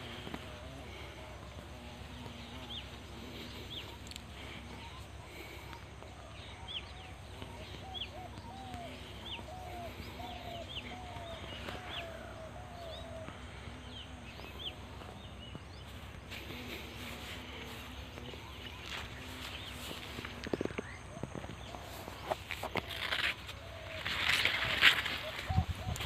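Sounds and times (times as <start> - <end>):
birds chirping: 0.0 - 26.0
lower arched bird calls: 0.0 - 26.0.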